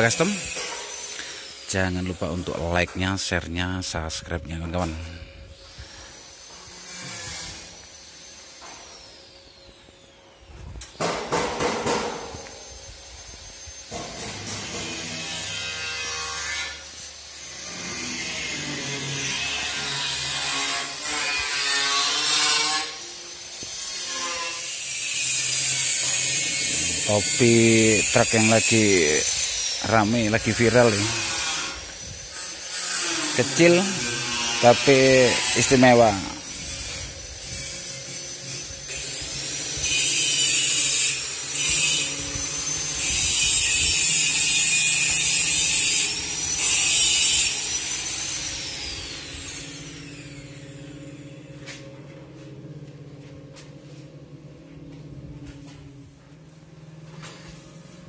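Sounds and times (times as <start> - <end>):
power tool grinding metal: 0.0 - 3.0, 4.4 - 10.0, 11.0 - 51.9.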